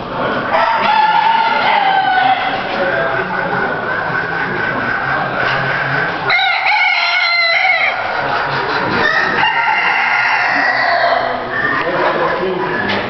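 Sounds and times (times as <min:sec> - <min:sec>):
poultry hall background din: 0:00.0 - 0:13.0
roosters crowing: 0:00.4 - 0:12.4.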